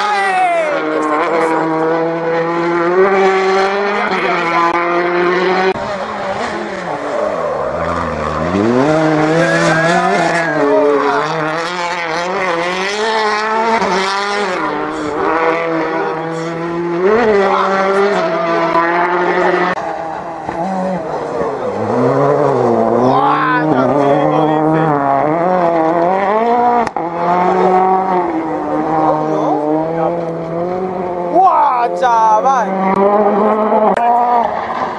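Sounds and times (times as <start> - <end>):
rally car engines at high revs: 0.0 - 34.9.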